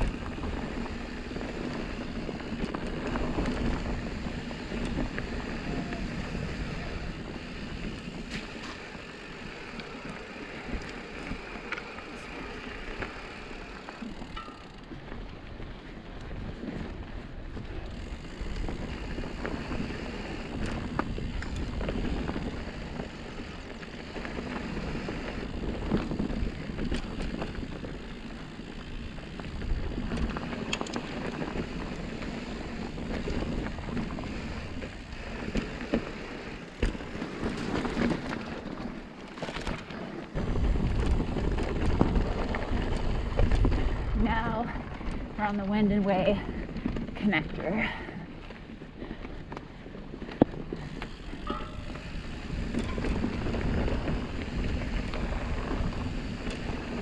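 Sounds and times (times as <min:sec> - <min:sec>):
bike clicks and knocks: 0:00.0 - 0:44.2, 0:48.0 - 0:57.0
bike tyres on gravel: 0:00.0 - 0:57.0
wind rumble on microphone: 0:00.0 - 0:57.0.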